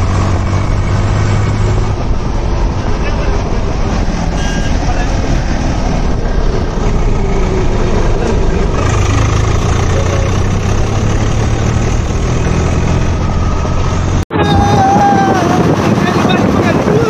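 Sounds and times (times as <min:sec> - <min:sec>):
tractor diesel engine running: 0:00.0 - 0:14.7.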